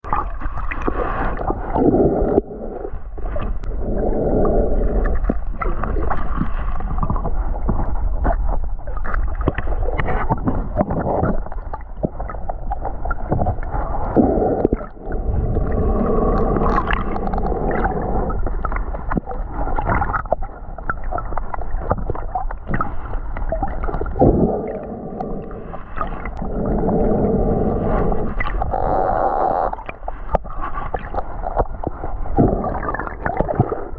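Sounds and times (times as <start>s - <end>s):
underwater rush of water: 0.0s - 33.9s.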